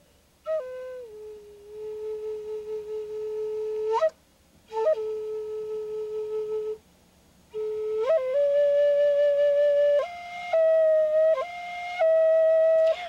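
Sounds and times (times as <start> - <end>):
flute playing long notes: 0.4 - 6.8, 7.5 - 13.0.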